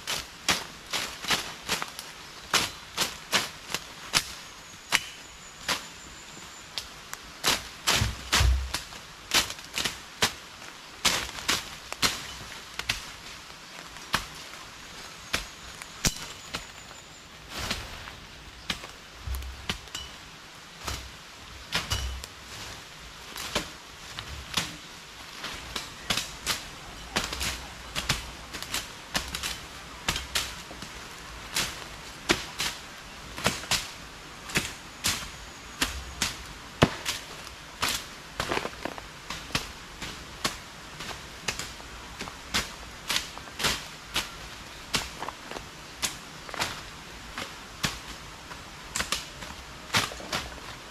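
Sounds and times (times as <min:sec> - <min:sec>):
machetes chopping undergrowth: 0:00.0 - 0:05.9, 0:07.4 - 0:16.9, 0:17.5 - 0:20.2, 0:20.8 - 0:22.8, 0:23.4 - 0:50.9.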